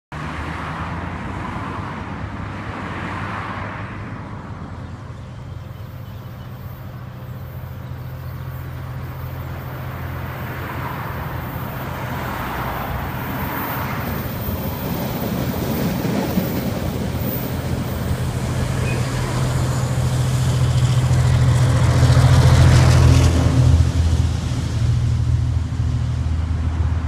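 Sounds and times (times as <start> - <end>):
road traffic passing: 0.1 - 27.0.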